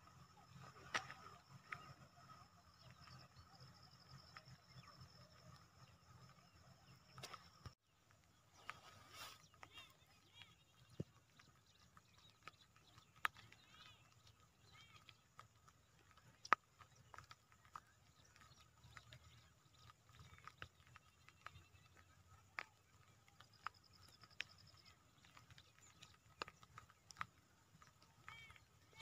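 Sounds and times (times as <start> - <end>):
faint chirps: 0.0 - 29.0.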